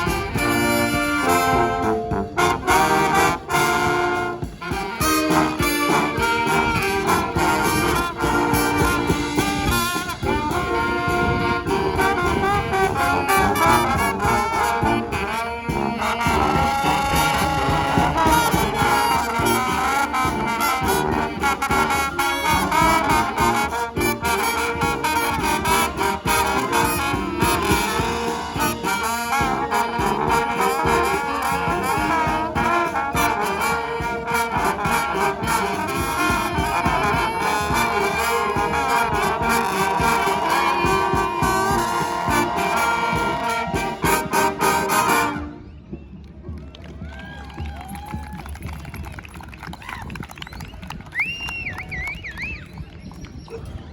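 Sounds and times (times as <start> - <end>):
steady drum beat: 0.0 - 45.6
brass band playing: 0.0 - 46.0.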